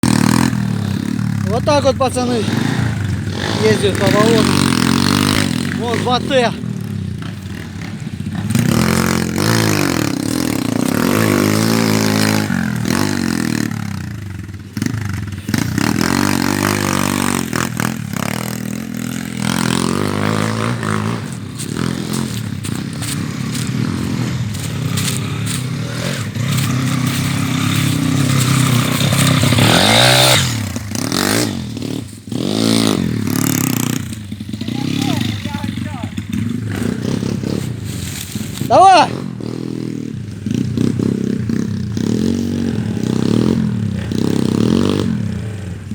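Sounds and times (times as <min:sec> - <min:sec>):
tractor engine revving: 0:00.0 - 0:06.6, 0:07.2 - 0:39.9.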